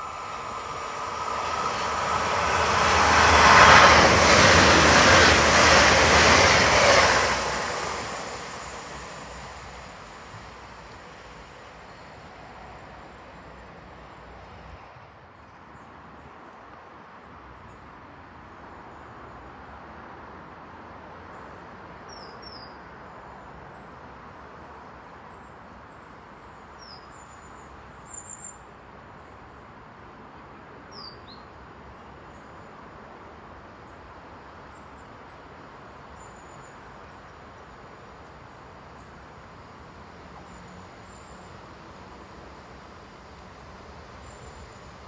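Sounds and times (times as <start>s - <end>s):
faint approaching train: 0.0s - 45.0s
outdoor background noise: 0.0s - 45.0s.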